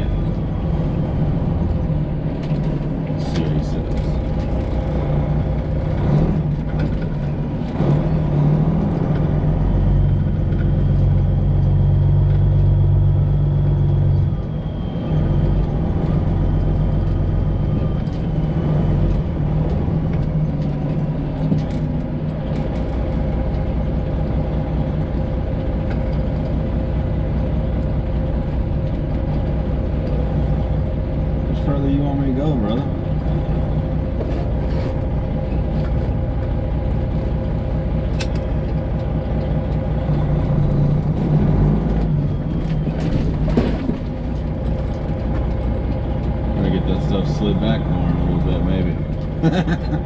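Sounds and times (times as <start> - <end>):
truck diesel engine running: 0.0 - 50.0.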